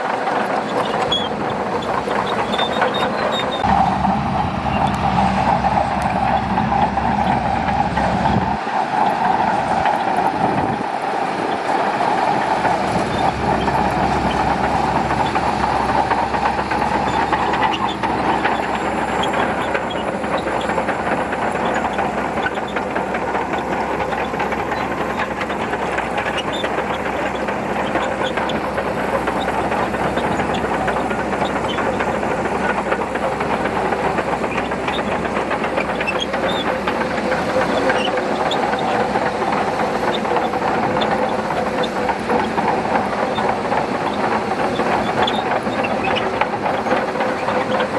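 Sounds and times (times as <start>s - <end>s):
bulldozer diesel engine: 0.0s - 47.9s
steel tracks clattering: 0.0s - 47.9s.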